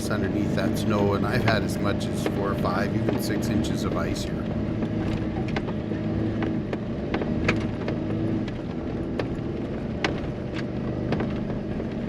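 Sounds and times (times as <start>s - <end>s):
engine running under load: 0.0s - 12.0s
sharp clicks and knocks: 0.0s - 12.0s.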